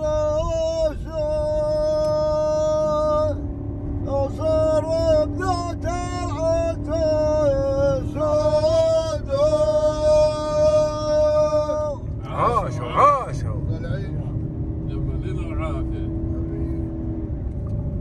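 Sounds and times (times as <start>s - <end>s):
vehicle driving rumble: 0.0s - 18.0s.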